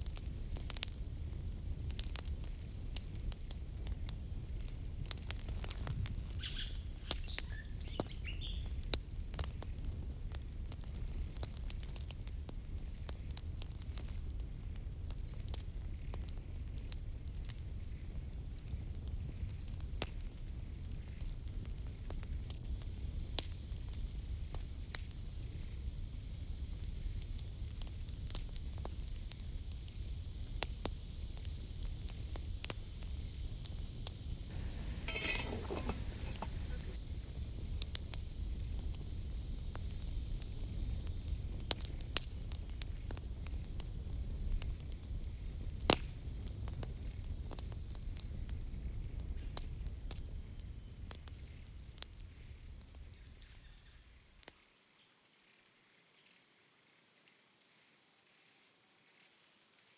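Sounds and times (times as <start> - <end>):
wood fire crackling and popping: 0.0 - 53.2.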